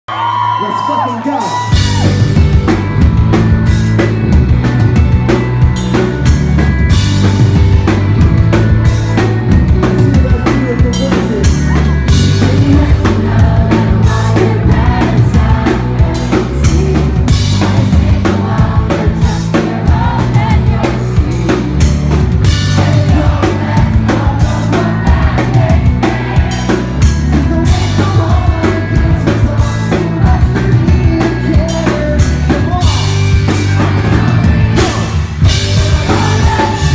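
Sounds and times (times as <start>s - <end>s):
live rock band playing: 0.1s - 36.9s.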